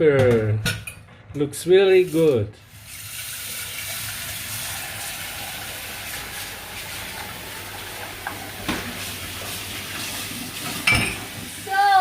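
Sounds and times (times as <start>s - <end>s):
kitchen tap running: 1.9s - 12.0s.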